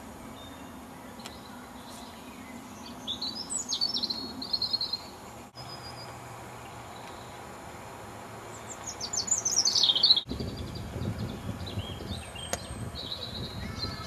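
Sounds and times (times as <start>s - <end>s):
songbird chirping and trilling: 0.0s - 14.0s
steady low background noise: 0.0s - 14.0s.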